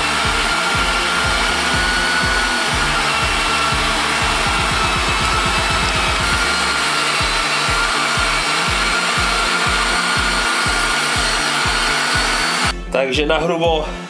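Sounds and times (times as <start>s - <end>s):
meat grinder motor whine: 0.0s - 12.8s
background music: 0.0s - 14.0s
kick drum beat: 0.2s - 12.8s.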